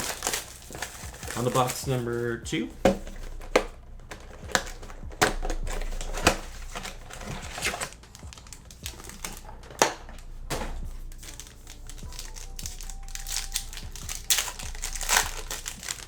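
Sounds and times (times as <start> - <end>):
plastic packaging rustling: 0.0 - 16.0
cardboard box clicks and snaps: 2.9 - 16.0.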